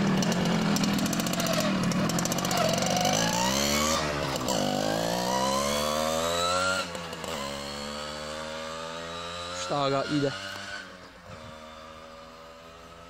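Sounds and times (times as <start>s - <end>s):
moped engine accelerating: 0.0s - 13.0s.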